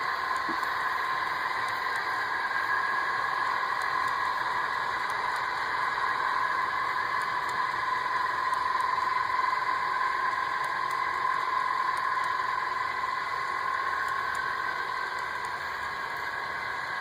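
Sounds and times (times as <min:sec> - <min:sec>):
model train humming: 0:00.0 - 0:17.0.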